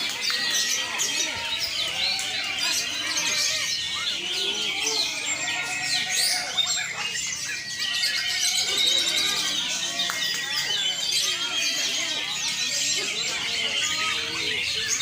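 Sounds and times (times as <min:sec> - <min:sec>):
many songbirds singing: 0:00.0 - 0:15.0.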